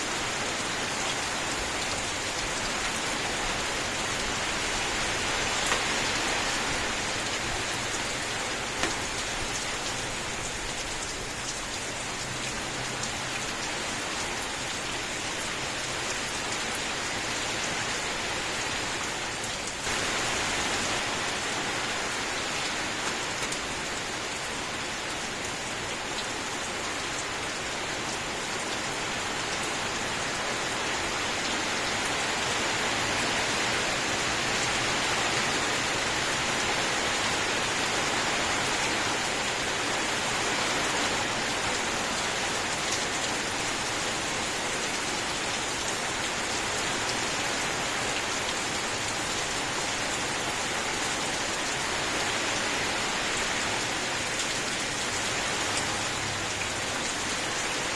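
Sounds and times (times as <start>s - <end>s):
steady rain hissing: 0.0s - 57.9s.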